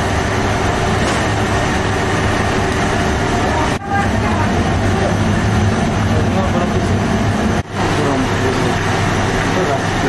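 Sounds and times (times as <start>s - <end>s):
loud rushing noise: 0.0s - 10.0s
machinery low hum: 0.0s - 10.0s.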